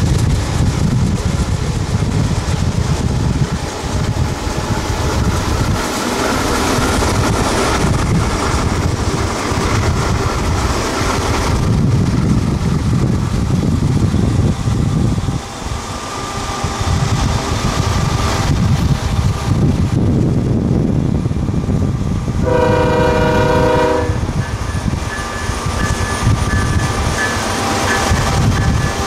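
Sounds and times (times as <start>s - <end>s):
car road and wind rumble: 0.0s - 29.0s
diesel freight locomotives running: 0.0s - 29.0s.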